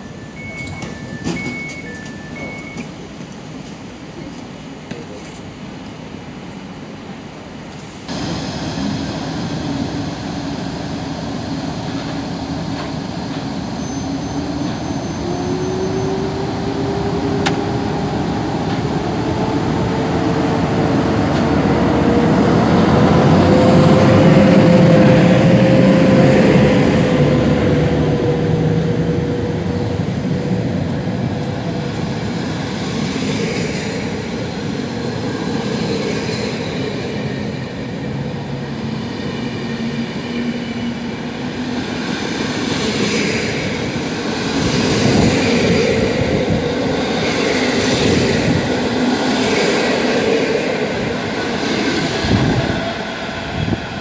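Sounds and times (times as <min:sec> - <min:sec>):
electric train passing: 0:08.1 - 0:54.0.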